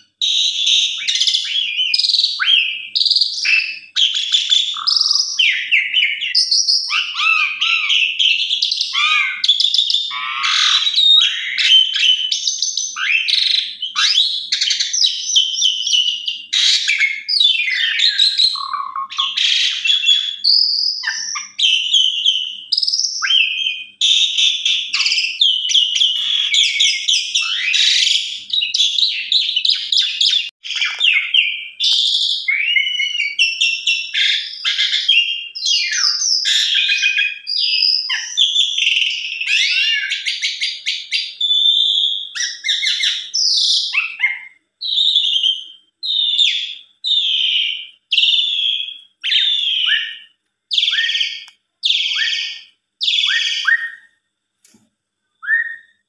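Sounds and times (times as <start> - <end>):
starling singing varied song: 0.0 - 54.0.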